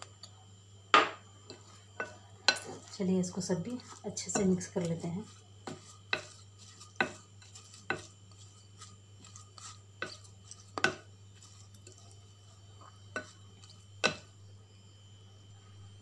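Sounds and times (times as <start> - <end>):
faint low hum: 0.0 - 16.0
spoon stirring vegetables: 1.4 - 14.4.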